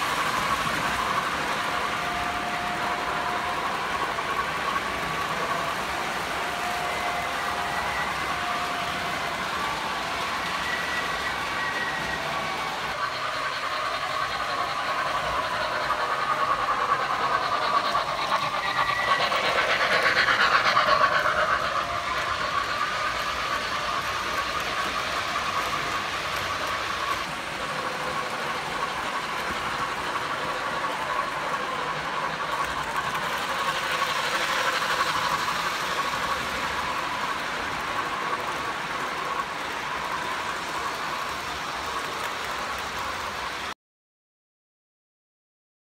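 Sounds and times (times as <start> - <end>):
model train whining hum: 0.0 - 43.8.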